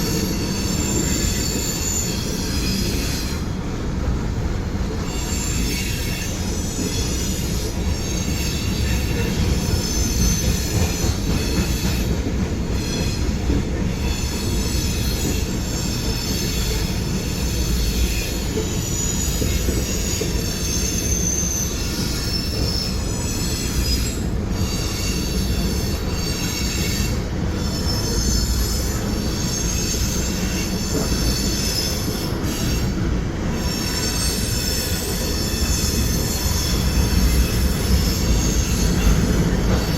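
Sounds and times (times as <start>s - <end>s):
train cars rumbling past: 0.0s - 39.9s
wheels squealing on rails: 0.0s - 39.9s.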